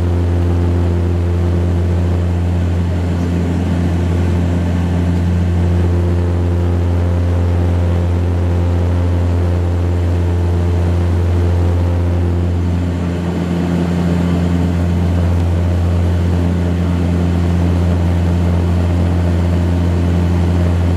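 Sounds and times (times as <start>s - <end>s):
propeller drone in cabin: 0.0s - 20.9s.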